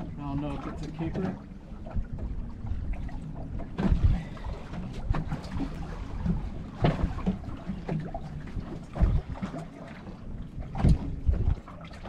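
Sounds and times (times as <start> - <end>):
knocks and bumps on a boat: 0.0 - 12.0
water lapping at a hull: 0.0 - 12.0
wind on microphone: 0.0 - 12.0.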